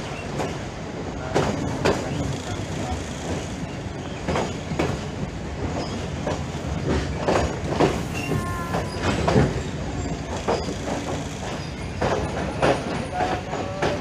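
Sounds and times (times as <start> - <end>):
train coach rumbling: 0.0 - 14.0
wheels clanking and knocking: 1.2 - 14.0.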